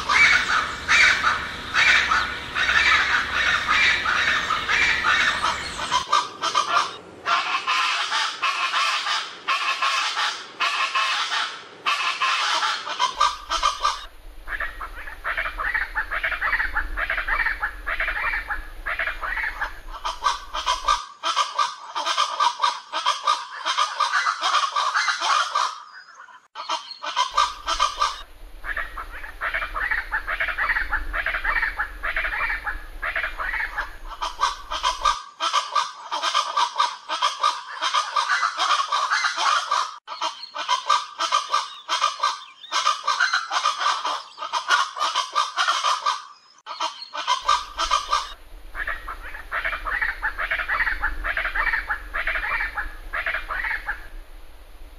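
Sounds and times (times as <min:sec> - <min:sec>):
birds calling raucously: 0:00.0 - 0:54.2.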